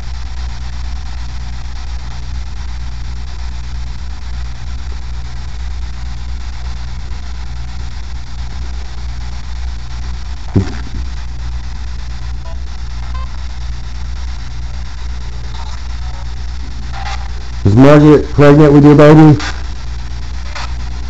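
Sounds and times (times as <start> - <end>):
constant hiss: 0.0 - 21.0
steady low hum: 0.0 - 21.0.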